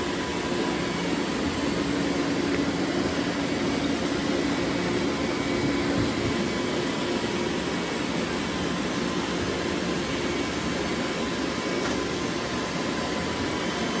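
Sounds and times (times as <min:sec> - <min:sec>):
robot vacuum cleaner whirring: 0:00.0 - 0:13.7.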